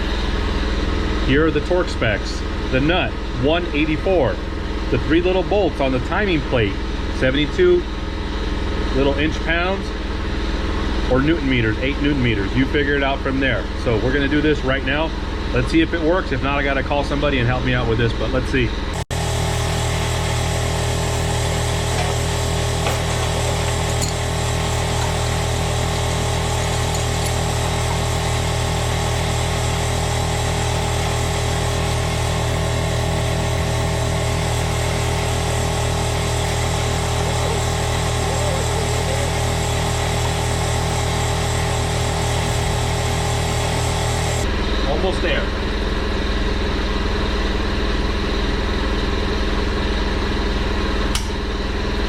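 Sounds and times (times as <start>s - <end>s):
air compressor running: 0.0s - 52.0s.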